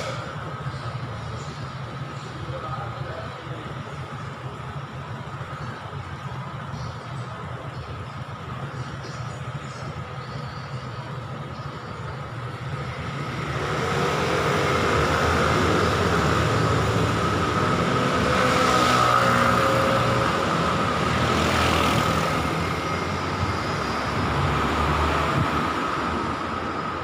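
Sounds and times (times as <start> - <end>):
scooters and cars driving past: 0.0 - 27.0.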